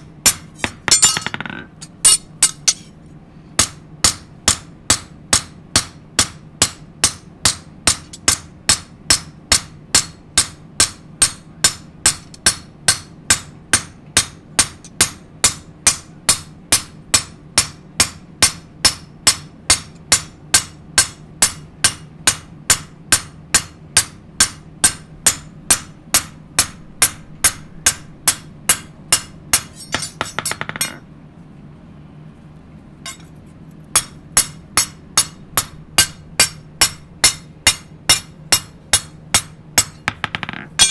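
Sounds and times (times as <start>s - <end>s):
hammer striking blade on anvil: 0.0s - 3.0s, 3.6s - 31.0s, 33.1s - 33.3s, 34.0s - 40.9s.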